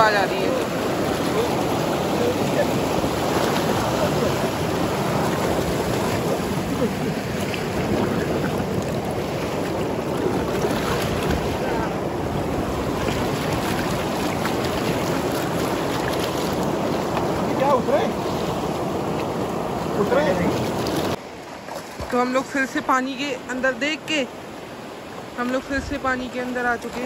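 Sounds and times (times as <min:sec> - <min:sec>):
river rapids rushing: 0:00.0 - 0:21.7.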